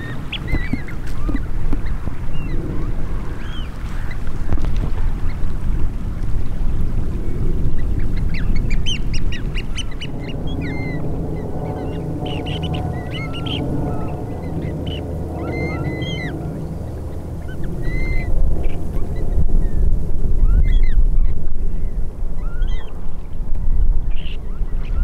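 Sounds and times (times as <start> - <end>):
waterbirds calling: 0.0 - 25.0
wind and water rumble: 0.0 - 25.0.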